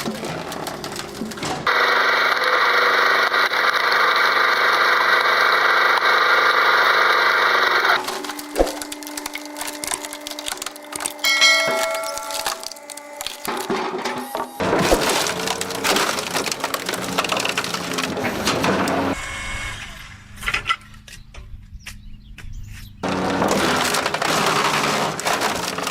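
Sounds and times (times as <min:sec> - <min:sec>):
wood splintering and crackling: 0:00.0 - 0:21.3, 0:23.0 - 0:25.9.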